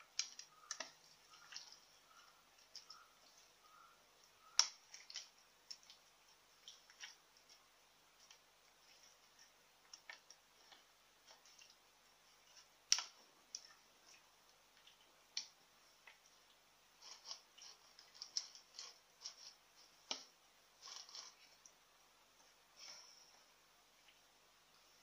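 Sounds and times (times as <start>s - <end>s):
fingers picking at fish on a plate: 0.0s - 21.8s
small clicks and smacks: 0.0s - 21.8s.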